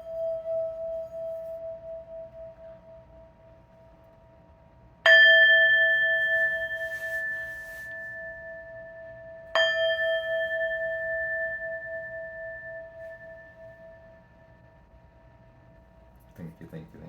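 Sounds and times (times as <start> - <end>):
singing bowl ringing: 0.0 - 16.1.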